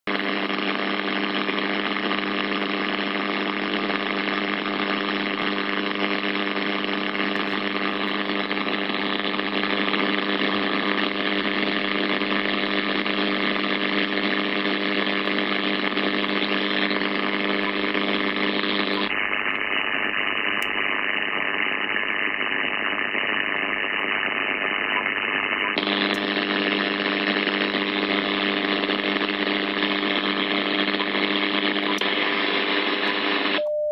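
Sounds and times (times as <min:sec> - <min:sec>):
radio band noise hiss: 0:00.1 - 0:33.6.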